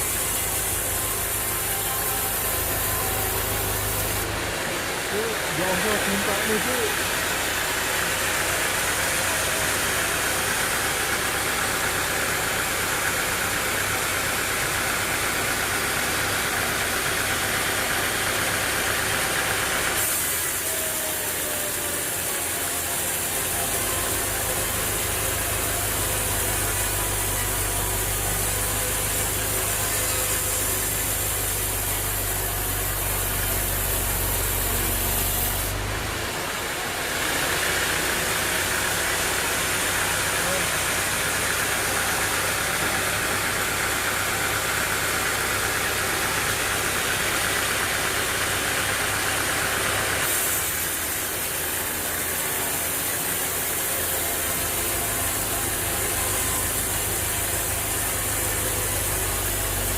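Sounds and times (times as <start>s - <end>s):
engine running with low hum: 0.0s - 59.9s.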